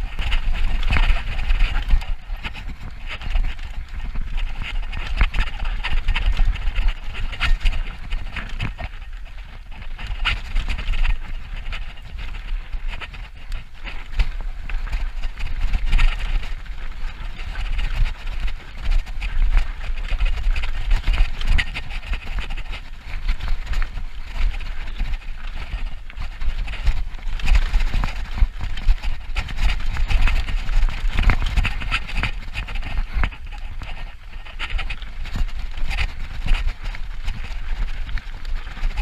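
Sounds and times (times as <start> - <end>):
bike rattling over bumps: 0.0 - 39.0
bike tyres on dirt trail: 0.0 - 39.0
wind rumble on microphone: 0.0 - 39.0.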